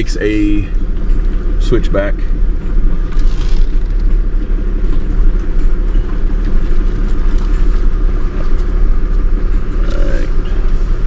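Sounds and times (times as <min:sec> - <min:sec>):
road rumble: 0:00.0 - 0:11.0
truck engine: 0:00.0 - 0:11.0.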